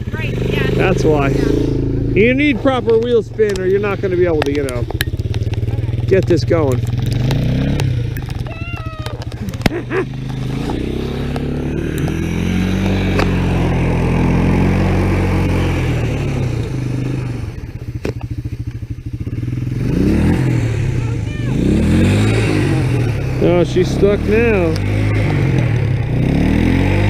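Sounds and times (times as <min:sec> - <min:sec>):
engine revving hard: 0:00.0 - 0:04.8, 0:07.0 - 0:08.3, 0:09.3 - 0:17.6, 0:19.4 - 0:27.0.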